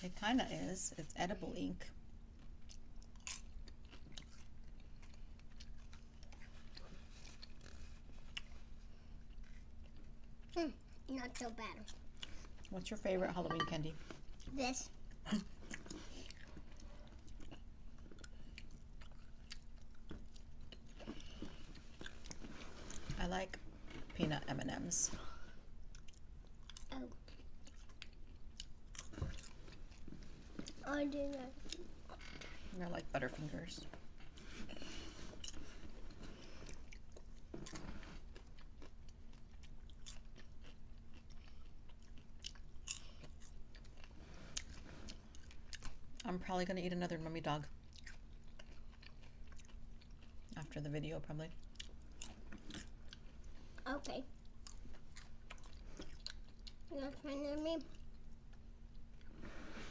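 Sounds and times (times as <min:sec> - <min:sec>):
faint steady hum: 0:00.0 - 0:59.9
people chewing food: 0:00.1 - 0:59.9.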